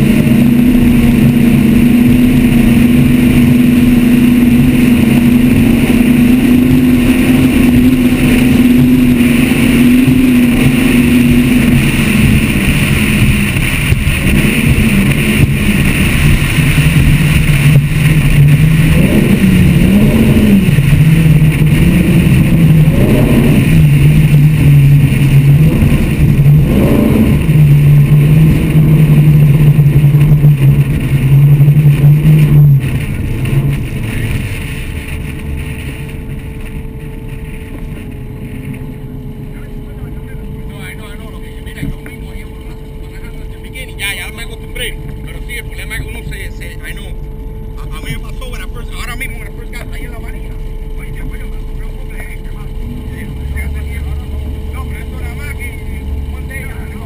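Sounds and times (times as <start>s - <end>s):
boat engines running: 0.0s - 57.0s.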